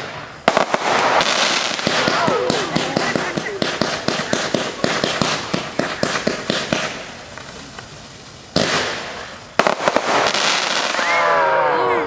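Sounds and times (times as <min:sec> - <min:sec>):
firework bangs: 0:00.0 - 0:11.6
firework crackling: 0:00.0 - 0:11.7.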